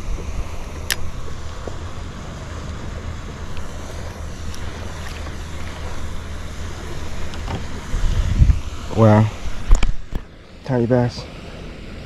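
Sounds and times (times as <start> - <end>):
wind buffeting microphone: 0.0 - 10.4
outdoor noise: 0.0 - 12.0.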